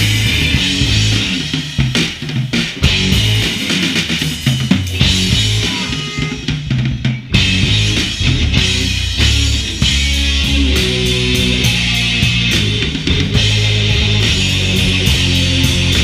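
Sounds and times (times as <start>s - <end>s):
drum kit played fast: 0.0s - 16.0s.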